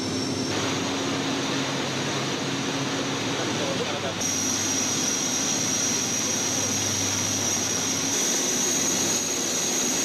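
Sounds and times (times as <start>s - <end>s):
constant high whine: 0.0s - 10.0s
wind: 0.0s - 10.0s.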